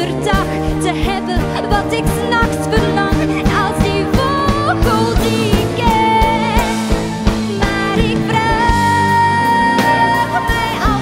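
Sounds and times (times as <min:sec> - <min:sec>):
band playing: 0:00.0 - 0:11.0
woman singing with vibrato: 0:00.0 - 0:11.0
steady drum beat: 0:00.2 - 0:11.0.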